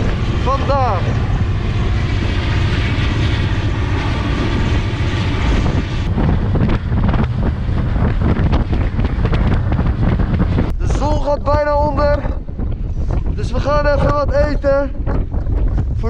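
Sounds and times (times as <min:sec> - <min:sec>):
train rumbling: 0:00.0 - 0:14.3
wind buffeting microphone: 0:00.0 - 0:16.0.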